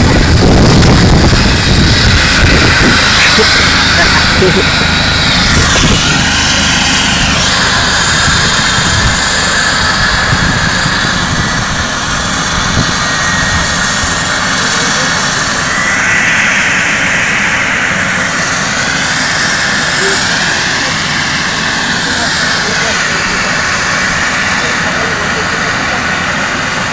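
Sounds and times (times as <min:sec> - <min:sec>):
helicopter turbines whining: 0:00.0 - 0:26.9
rushing noise: 0:00.0 - 0:26.9.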